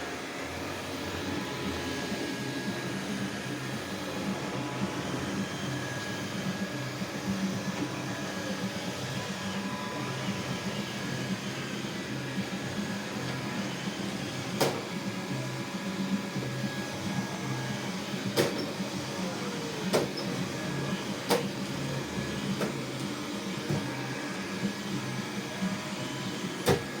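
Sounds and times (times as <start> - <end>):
robot vacuum cleaner humming: 0.0 - 27.0.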